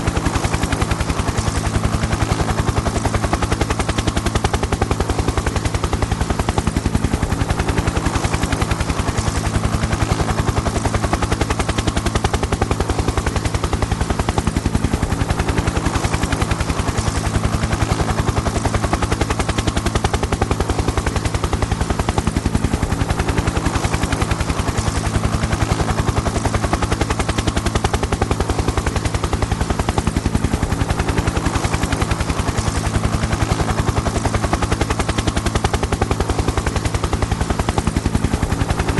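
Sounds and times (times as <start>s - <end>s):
helicopter rotor chopping: 0.0s - 38.9s.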